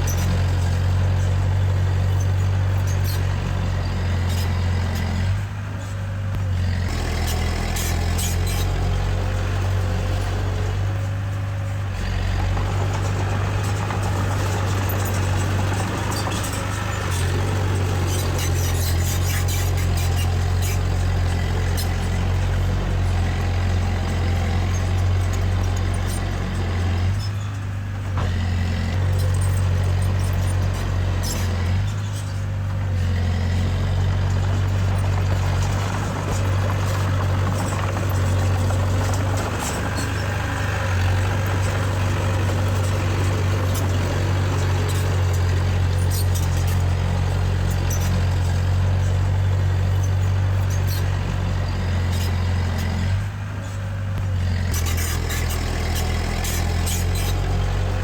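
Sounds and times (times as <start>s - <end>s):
heavy machinery diesel engine: 0.0s - 58.0s.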